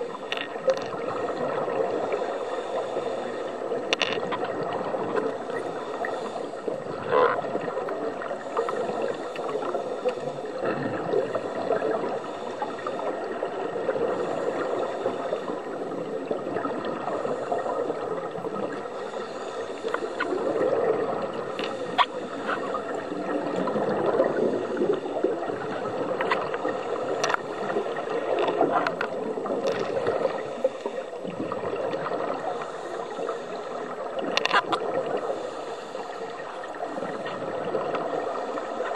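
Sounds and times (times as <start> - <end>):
scuba regulator breathing bubbles: 0.0 - 38.9.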